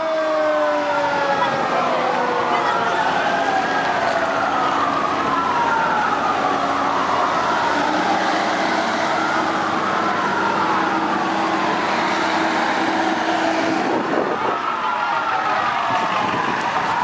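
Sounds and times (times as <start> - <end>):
fire engine sirens wailing: 0.0 - 17.0
vehicle engines running: 0.1 - 17.0.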